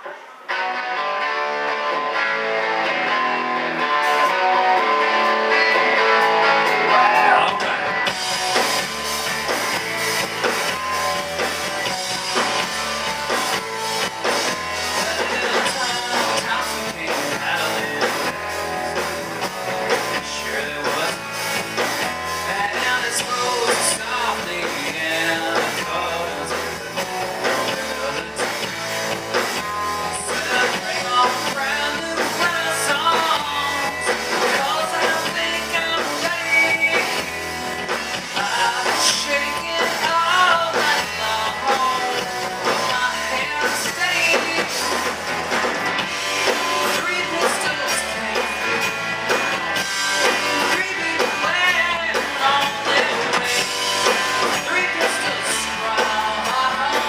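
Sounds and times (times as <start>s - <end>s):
bass: 0.0s - 57.0s
drums: 0.0s - 57.0s
guitar: 0.0s - 57.0s.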